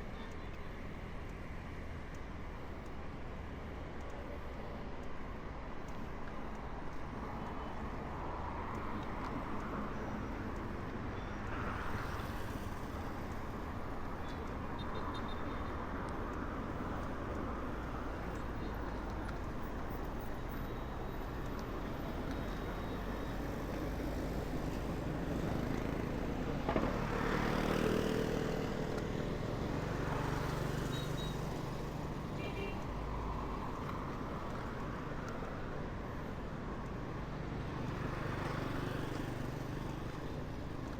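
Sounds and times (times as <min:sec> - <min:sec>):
street traffic noise: 0:00.0 - 0:40.9.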